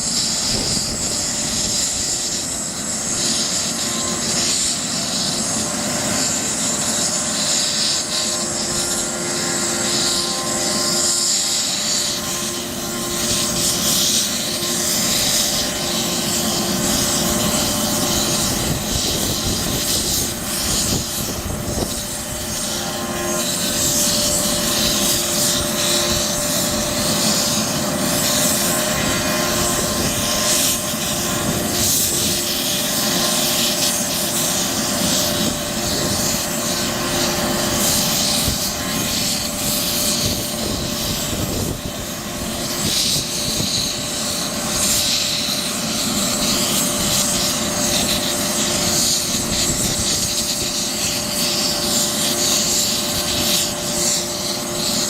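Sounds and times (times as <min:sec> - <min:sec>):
helicopter turbine engines running: 0:00.0 - 0:55.0.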